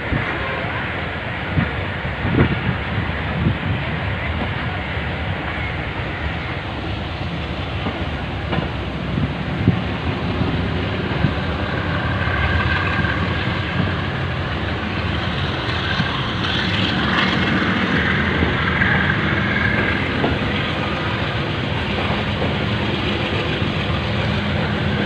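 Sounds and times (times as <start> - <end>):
diesel locomotive drone: 0.0 - 25.0
wheels rumbling on track: 0.0 - 25.0.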